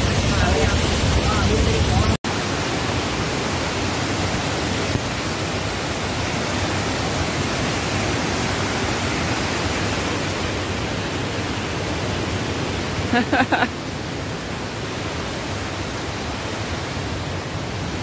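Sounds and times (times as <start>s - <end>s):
floodwater roaring over rocks: 0.0s - 18.0s.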